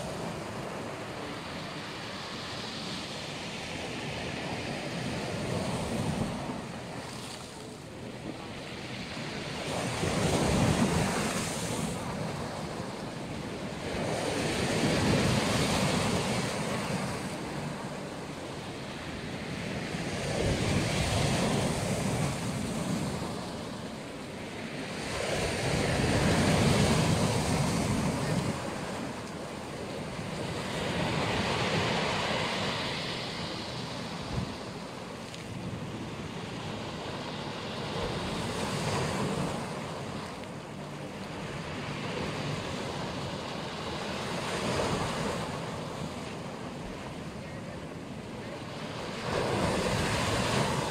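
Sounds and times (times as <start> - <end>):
waves breaking on shore: 0.0 - 50.9.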